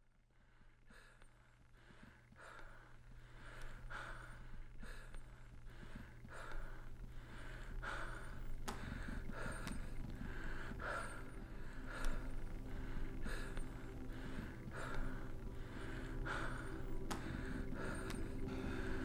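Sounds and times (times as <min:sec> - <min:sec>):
low steady hum: 0:00.0 - 0:19.0
person breathing hard: 0:00.3 - 0:19.0.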